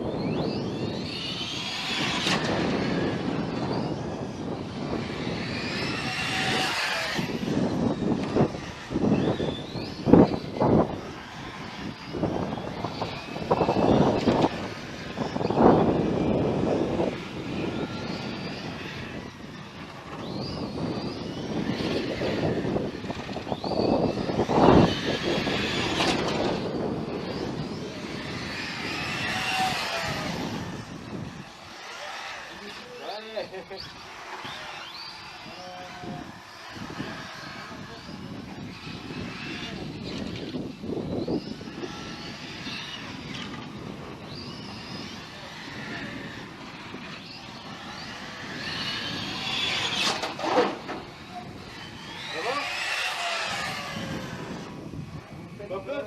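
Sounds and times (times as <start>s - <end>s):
radio-controlled model whining: 0.0s - 56.0s.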